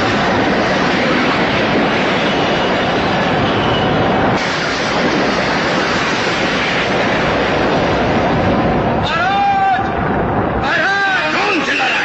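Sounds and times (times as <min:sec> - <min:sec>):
large fire roaring: 0:00.0 - 0:12.0.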